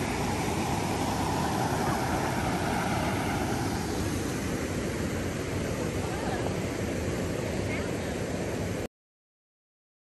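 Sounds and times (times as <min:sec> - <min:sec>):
creek rushing over rapids: 0:00.0 - 0:08.9.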